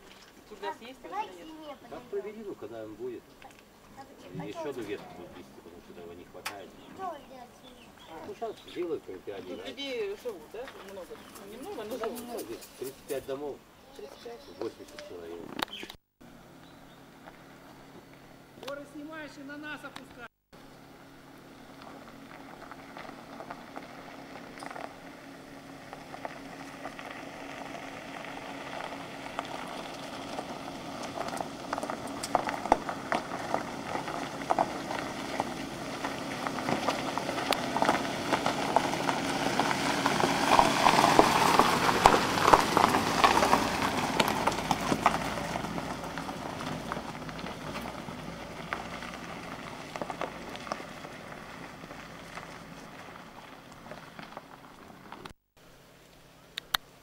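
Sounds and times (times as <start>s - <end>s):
car tyres crunching on gravel: 0.0s - 56.5s.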